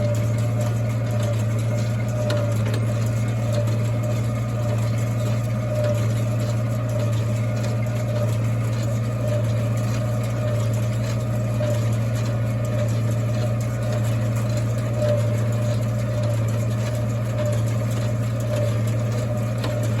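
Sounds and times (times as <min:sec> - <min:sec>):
hay baler mechanical drone: 0:00.0 - 0:20.0.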